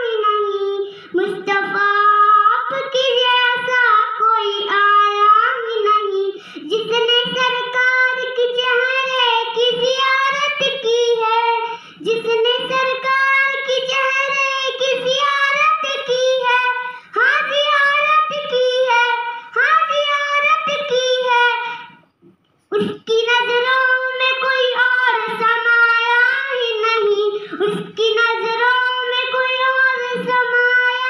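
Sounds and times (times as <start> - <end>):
girl singing unaccompanied: 0.0 - 22.1, 22.7 - 31.0.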